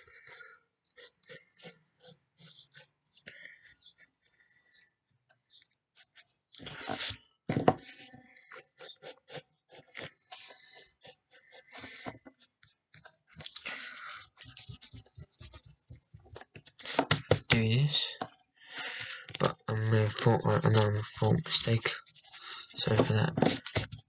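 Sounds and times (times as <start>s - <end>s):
pencil strokes scratching paper: 0.0s - 5.2s, 5.9s - 24.0s.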